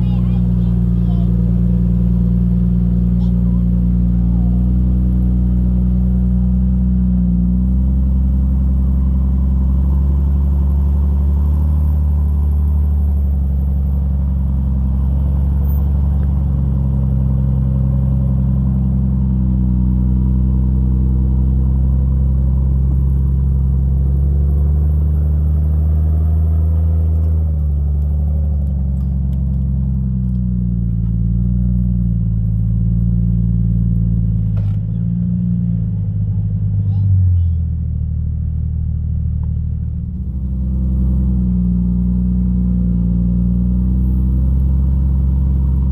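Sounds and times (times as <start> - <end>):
engine running at low revs: 0.0 - 45.9.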